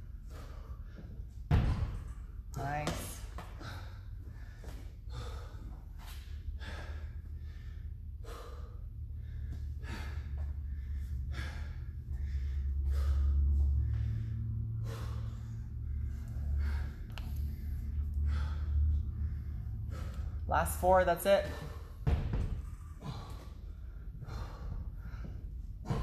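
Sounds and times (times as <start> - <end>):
man panting heavily: 0.0 - 1.4, 3.4 - 20.5, 21.4 - 26.0
steady low hum: 0.0 - 26.0.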